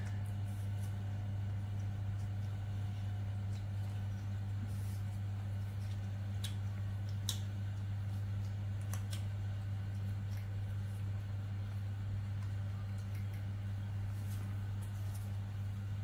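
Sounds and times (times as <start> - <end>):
soft chewing clicks: 0.0 - 16.0
steady low hum: 0.0 - 16.0.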